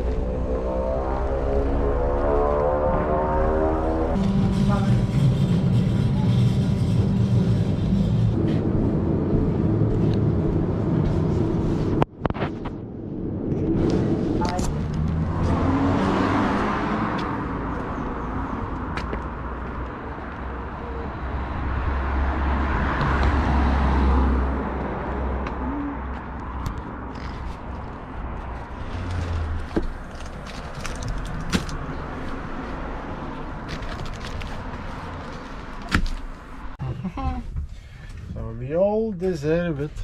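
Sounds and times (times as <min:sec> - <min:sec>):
motor vehicle rumble: 0:00.0 - 0:40.0.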